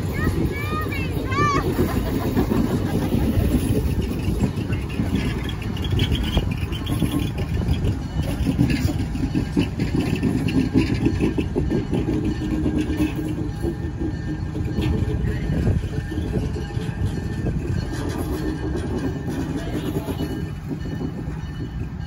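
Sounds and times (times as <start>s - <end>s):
train wheels clattering on rails: 0.0s - 22.0s.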